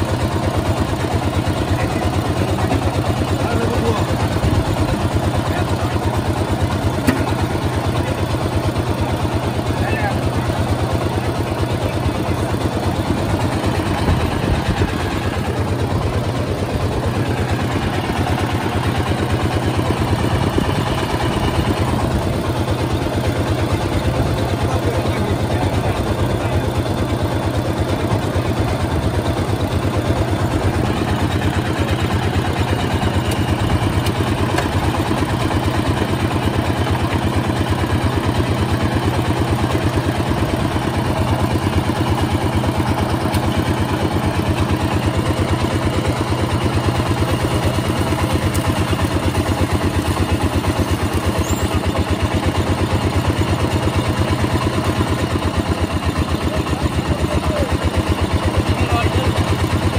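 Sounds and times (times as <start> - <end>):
small engine thumping: 0.1 - 59.9.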